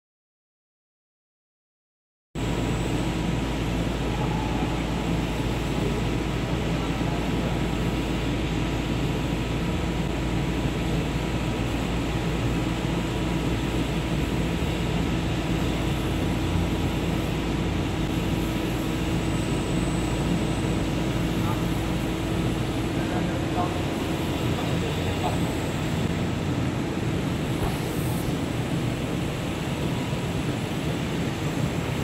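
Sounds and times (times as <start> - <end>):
machine humming with steady tones: 2.4 - 32.0.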